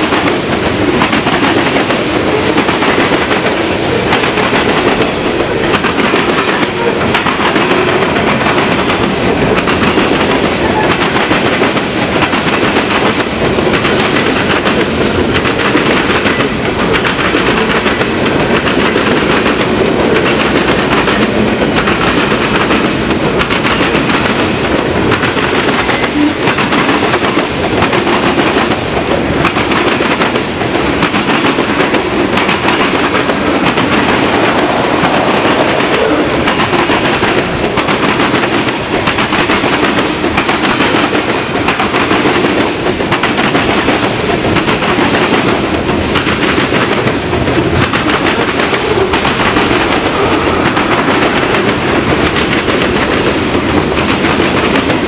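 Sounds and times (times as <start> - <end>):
steel wheels clattering over rail joints: 0.0 - 55.0.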